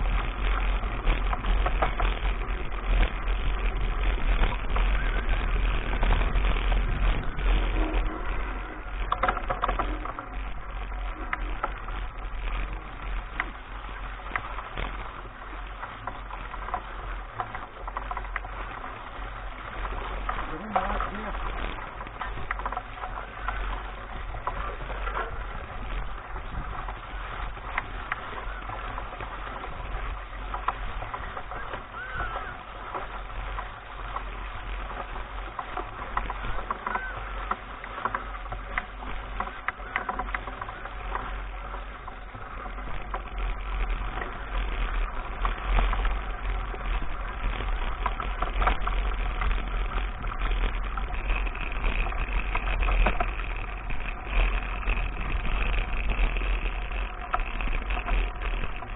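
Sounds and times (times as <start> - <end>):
bike rattling over dirt: 0.0 - 58.9
wind rumble on microphone: 0.0 - 58.9.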